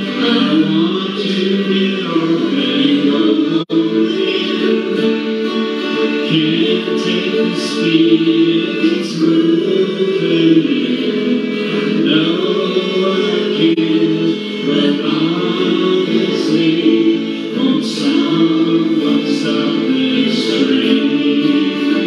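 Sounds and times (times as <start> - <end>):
acoustic guitar: 0.0 - 22.0
man and woman singing: 0.0 - 22.0.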